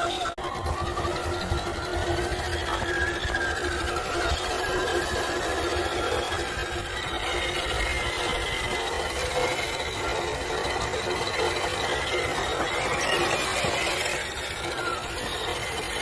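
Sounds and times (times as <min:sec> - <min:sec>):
rc car electric motor whining: 0:00.0 - 0:16.0.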